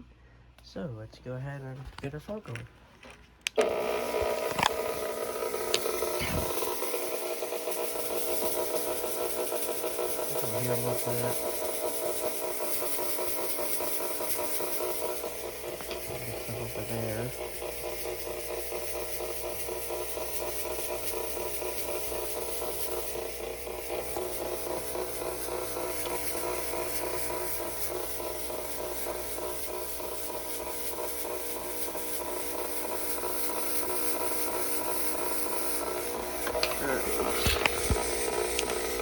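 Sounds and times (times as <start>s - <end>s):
fog machine pump buzzing: 2.0s - 39.0s
hiss of fog blowing out: 4.2s - 39.0s.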